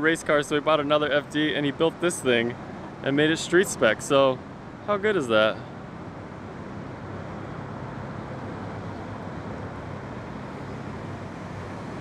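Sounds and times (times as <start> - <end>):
constant low hum: 0.0 - 12.0
low rumble of traffic: 0.0 - 12.0.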